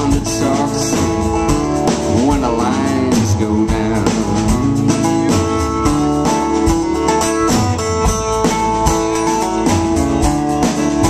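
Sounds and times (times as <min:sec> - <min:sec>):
drum kit steady beat: 0:00.0 - 0:11.0
guitars holding chords: 0:00.0 - 0:11.0
live band playing: 0:00.0 - 0:11.0.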